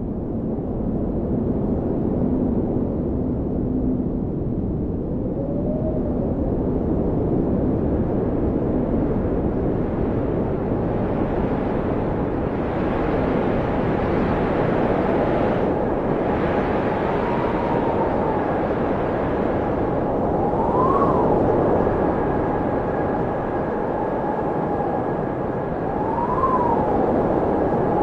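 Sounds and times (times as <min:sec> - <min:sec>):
blizzard wind rushing and howling: 0:00.0 - 0:28.0.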